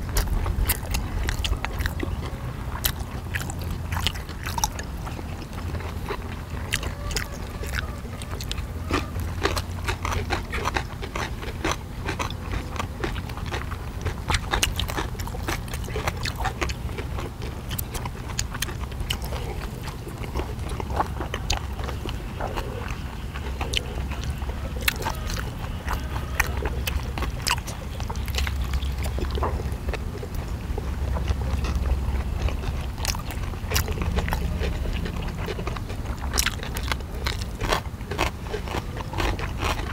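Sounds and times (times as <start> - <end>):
low steady hum: 0.0 - 39.9
people chewing with wet mouth noises: 0.0 - 39.9.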